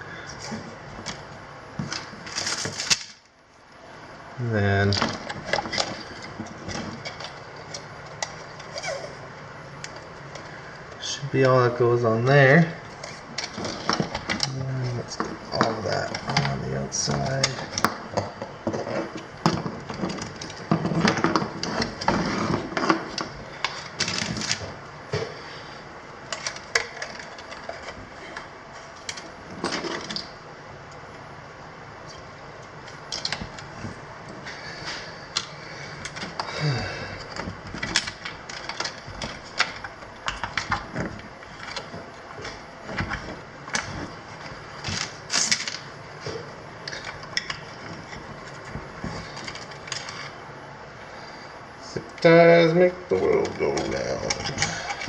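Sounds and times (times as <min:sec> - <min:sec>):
hands clicking and rustling wires: 0:00.3 - 0:03.7, 0:04.4 - 0:11.0, 0:12.8 - 0:25.4, 0:26.1 - 0:31.3, 0:32.0 - 0:50.5, 0:51.9 - 0:55.0.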